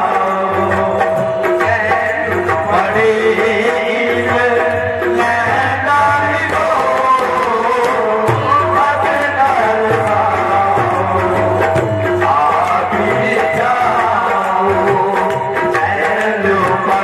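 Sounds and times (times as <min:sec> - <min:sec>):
hand drum beats: 0:00.0 - 0:17.0
man singing: 0:00.0 - 0:17.0.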